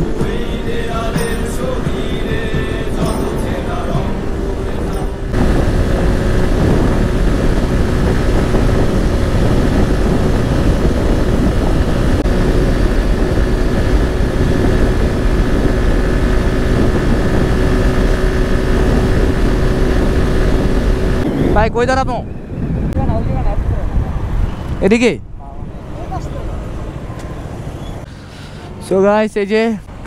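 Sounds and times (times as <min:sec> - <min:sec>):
wind rushing over microphone: 0:00.0 - 0:28.1
motorcycle engine cruising: 0:00.0 - 0:30.0.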